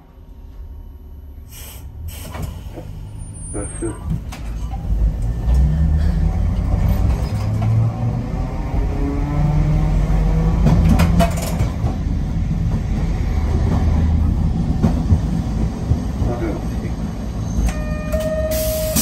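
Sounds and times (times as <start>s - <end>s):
streetcar motor hum: 0.0s - 19.0s
wheels rumbling on track: 0.0s - 19.0s.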